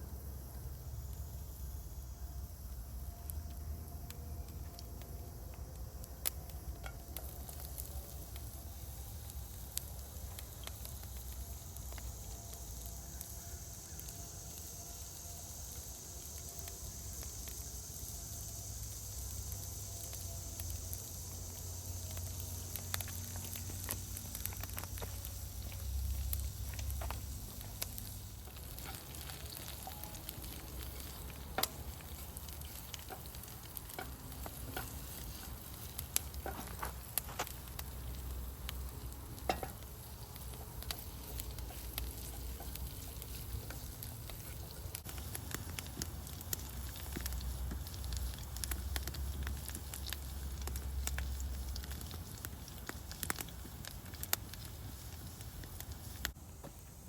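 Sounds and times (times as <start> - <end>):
campfire crackles and pops: 0.0 - 57.0
food sizzling in a pan: 4.5 - 57.0.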